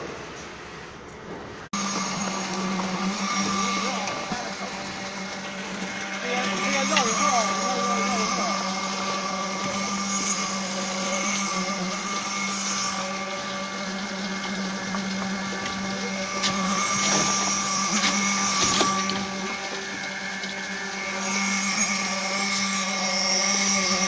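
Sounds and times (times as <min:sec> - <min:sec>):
diesel concrete pump running: 0:00.0 - 0:24.0
steady whine: 0:00.0 - 0:24.0.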